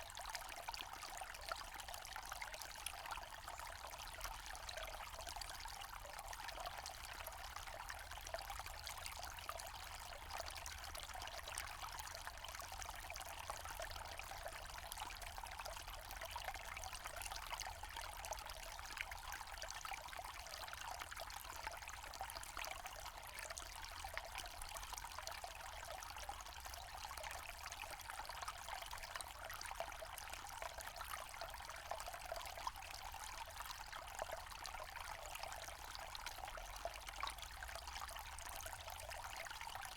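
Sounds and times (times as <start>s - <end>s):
stream running and trickling: 0.0s - 39.9s.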